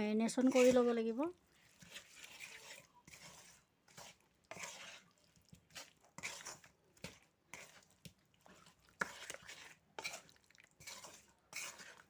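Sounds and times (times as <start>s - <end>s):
hands squishing marinated chicken: 0.4s - 12.0s.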